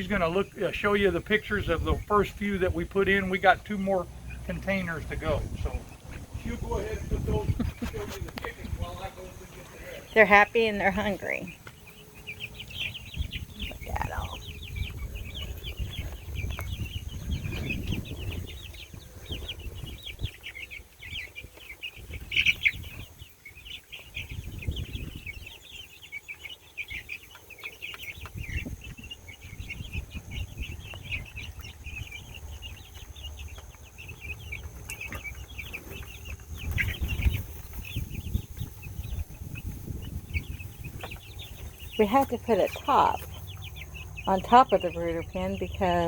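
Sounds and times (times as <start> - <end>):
young chickens peeping: 0.0 - 46.0.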